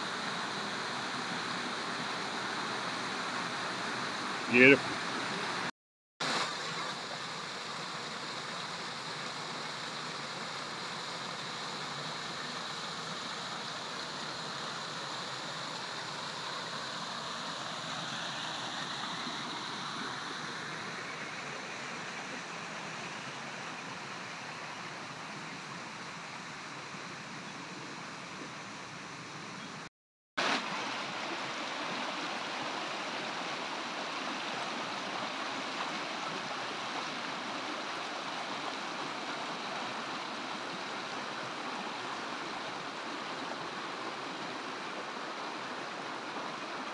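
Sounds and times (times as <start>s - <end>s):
water rushing over rocks: 0.0s - 29.3s, 30.4s - 46.9s.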